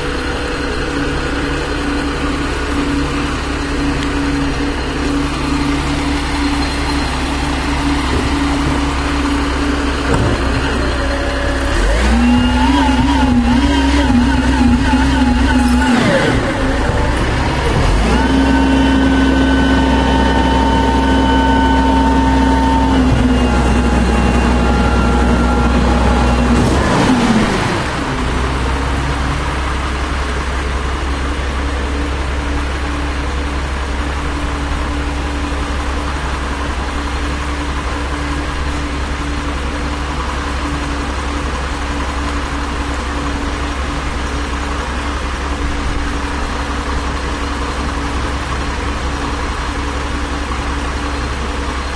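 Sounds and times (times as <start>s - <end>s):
diesel truck engine idling and revving: 0.0s - 51.9s.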